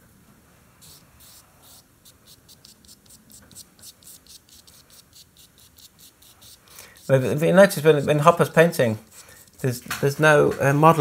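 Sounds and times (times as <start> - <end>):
brush scrubbing paint on canvas: 0.8 - 9.8.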